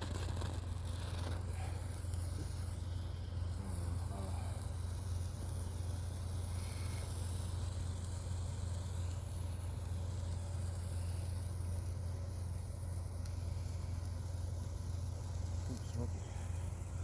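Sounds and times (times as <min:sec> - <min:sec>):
steady low hum: 0:00.0 - 0:17.0
faint high insect-like buzzing: 0:02.4 - 0:16.4.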